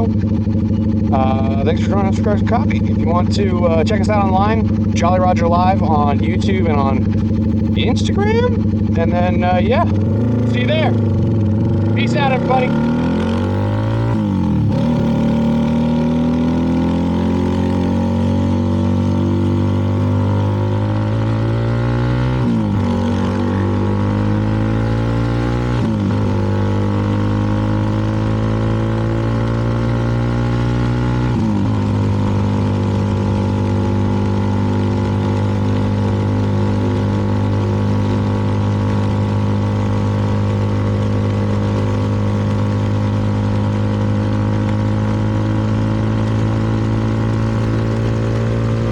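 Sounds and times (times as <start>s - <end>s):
gear changes: 0.0s - 48.9s
motorcycle engine running: 0.0s - 48.9s.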